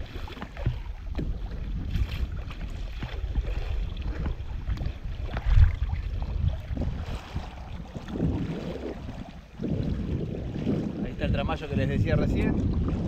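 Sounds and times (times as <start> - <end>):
water splashing against kayak hull: 0.0 - 13.0
wind on microphone: 0.0 - 13.0.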